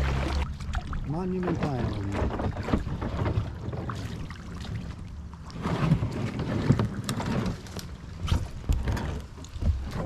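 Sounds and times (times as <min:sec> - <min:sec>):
paddle splashing in water: 0:00.0 - 0:10.0.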